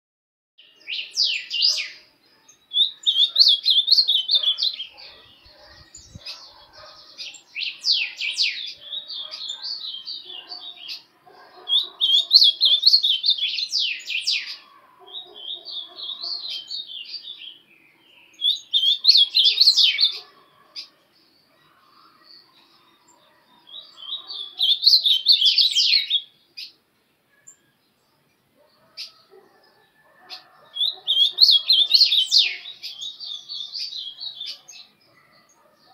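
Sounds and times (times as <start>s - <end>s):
bird singing warbling phrases: 0.6s - 35.9s.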